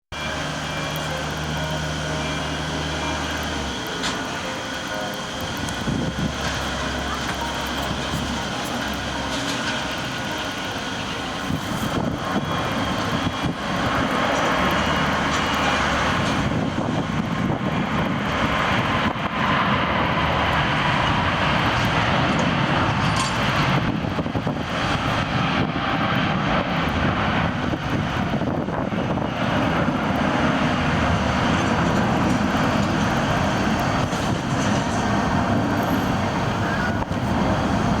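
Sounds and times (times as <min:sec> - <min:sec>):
jet engine rush: 0:00.1 - 0:38.0.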